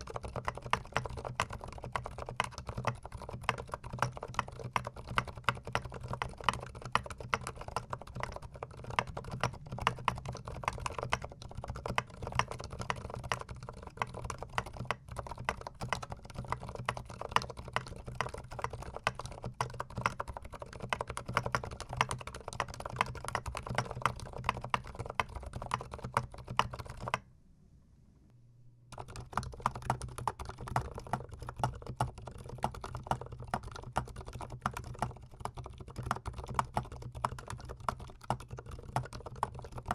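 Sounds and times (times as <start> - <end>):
mechanical keyboard typing: 0.0 - 27.2, 28.9 - 39.9.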